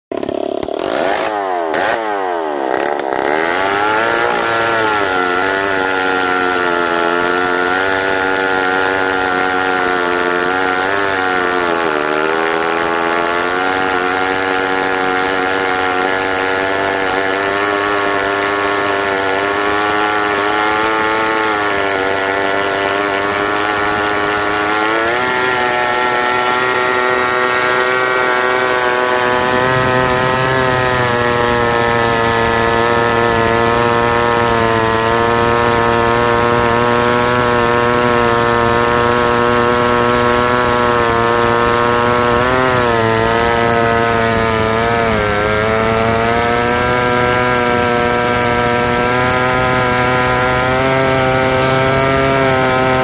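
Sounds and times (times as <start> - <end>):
chainsaw cutting log: 0.1 - 53.0.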